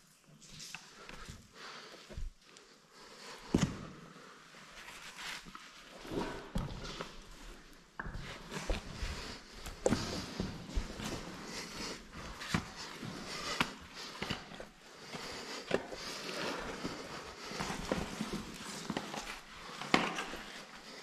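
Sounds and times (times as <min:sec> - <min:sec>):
clothing rustle: 0:00.0 - 0:21.0.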